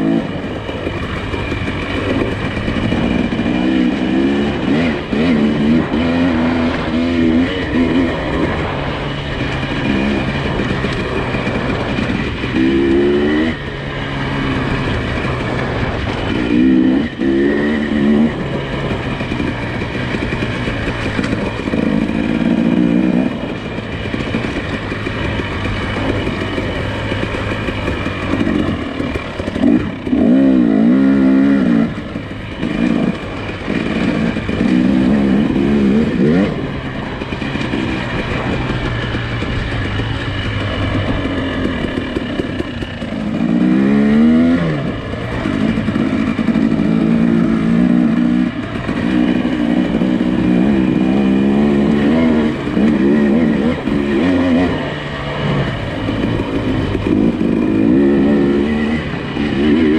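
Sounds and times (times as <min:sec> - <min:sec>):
car engine droning and revving: 0:00.0 - 0:59.9.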